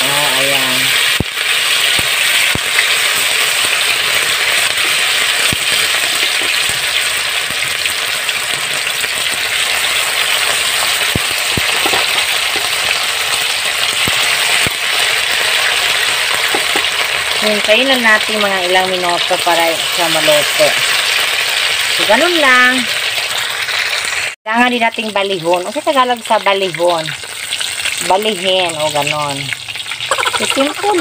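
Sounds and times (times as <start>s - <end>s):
frying sizzle in hot oil: 0.0s - 31.0s.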